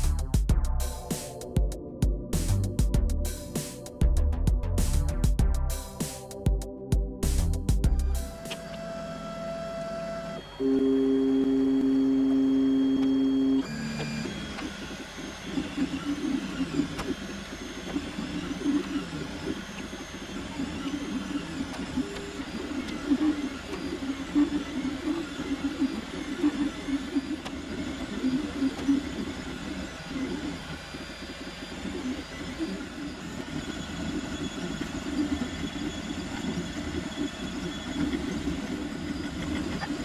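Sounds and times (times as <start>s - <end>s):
steady two-note motor whine: 0.0s - 40.0s
three d printer motors whirring: 7.9s - 40.0s.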